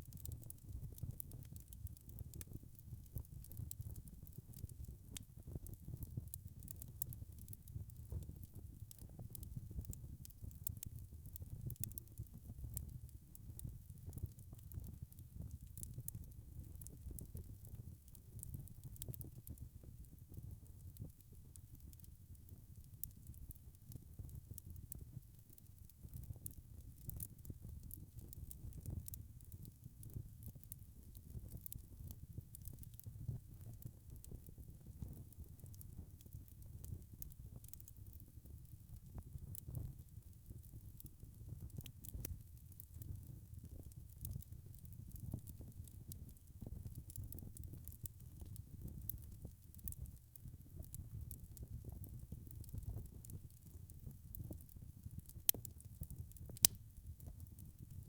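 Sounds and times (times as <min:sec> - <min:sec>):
fire crackling and popping: 0:00.0 - 0:58.0
log fire burning: 0:00.0 - 0:58.0.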